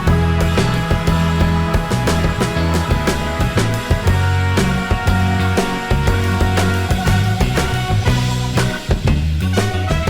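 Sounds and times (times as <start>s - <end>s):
upbeat rock music: 0.0s - 10.0s.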